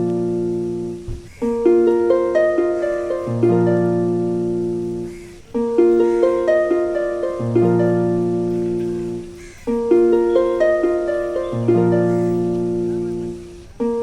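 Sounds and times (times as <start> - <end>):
plucked harp-like music: 0.0 - 14.0.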